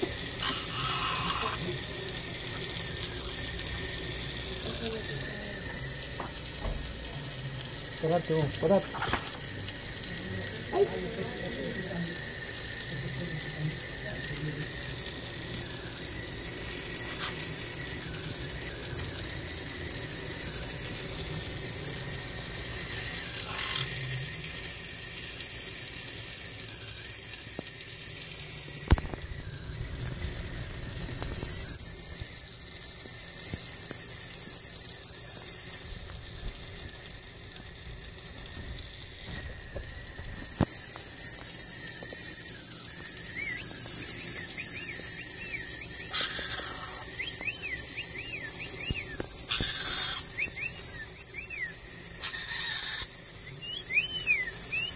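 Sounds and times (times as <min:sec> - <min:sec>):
hose water splashing on concrete: 0:00.0 - 0:54.9.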